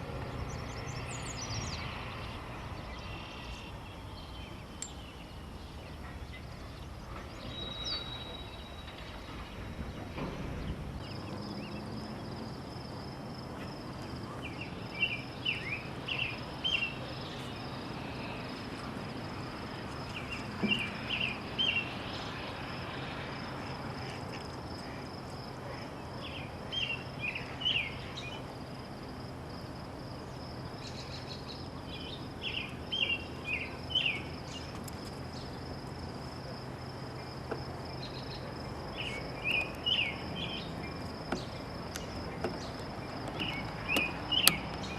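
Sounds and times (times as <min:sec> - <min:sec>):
high-pitched insect hum: 0:00.0 - 0:44.9
songbird singing: 0:00.0 - 0:44.9.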